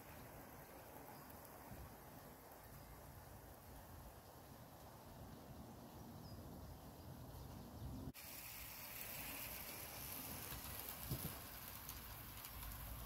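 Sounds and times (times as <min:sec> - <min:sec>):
outdoor ambient hiss: 0:00.0 - 0:13.0.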